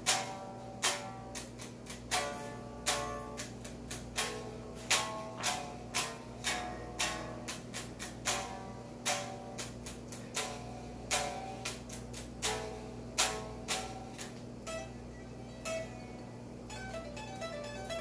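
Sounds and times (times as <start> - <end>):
electric guitar notes and strums: 0.0 - 18.0
steady low hum: 0.0 - 18.0.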